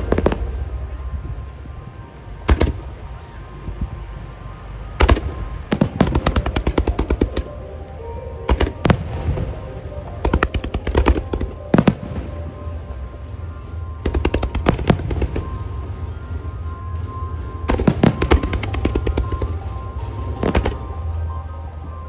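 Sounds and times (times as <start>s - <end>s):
fireworks bangs: 0.0s - 1.8s, 2.4s - 4.2s, 5.0s - 21.4s
music playing: 0.0s - 22.0s
rattling fireworks reports: 0.0s - 22.0s.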